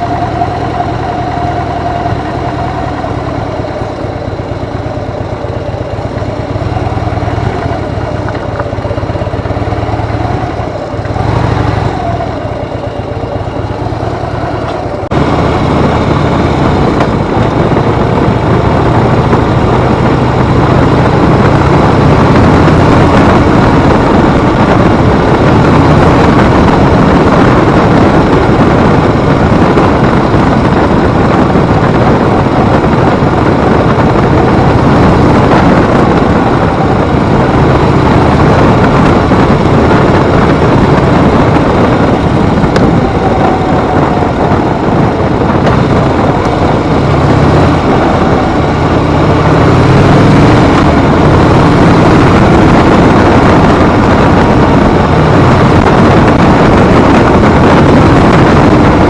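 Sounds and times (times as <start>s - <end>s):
motorcycle engine drone: 0.0s - 59.0s
wind rush: 0.0s - 59.0s.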